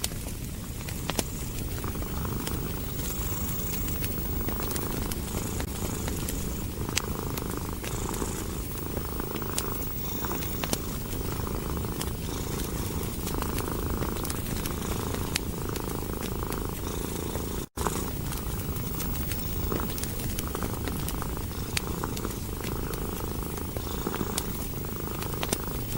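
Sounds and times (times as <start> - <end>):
cat purring: 0.0 - 25.9
wood fire crackling: 0.0 - 25.9.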